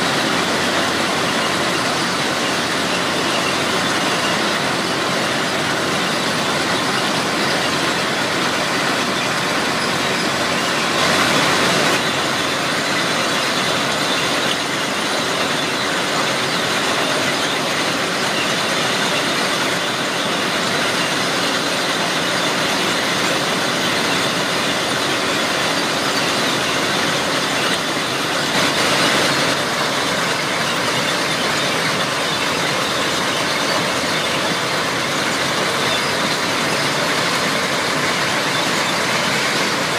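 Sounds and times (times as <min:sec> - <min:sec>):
track machine mechanical din: 0:00.0 - 0:39.9.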